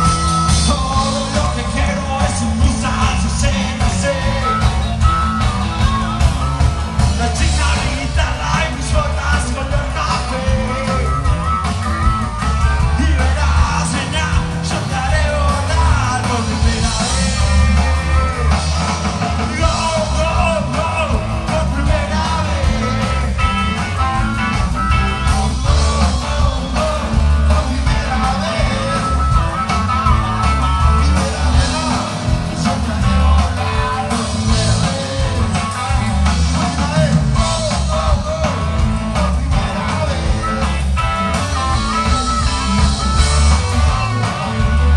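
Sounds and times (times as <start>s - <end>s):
electric guitar: 0.0s - 44.9s
live rock band: 0.0s - 44.9s
person singing: 7.0s - 24.1s, 25.2s - 44.9s.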